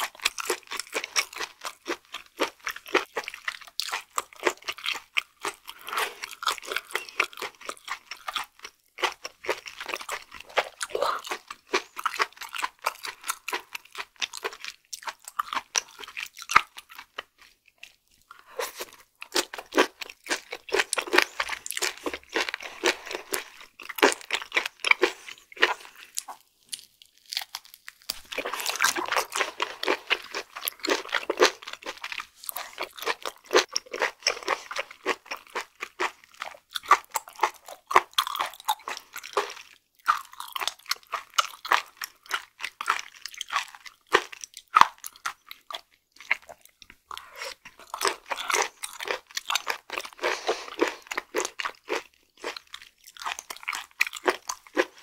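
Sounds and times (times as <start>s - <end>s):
crunchy wet chewing: 0.0s - 55.0s.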